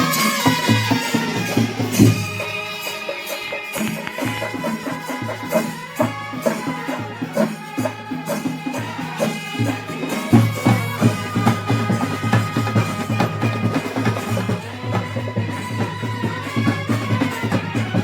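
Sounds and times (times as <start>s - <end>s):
band music: 0.0s - 18.0s
steady drumbeat: 0.0s - 18.0s.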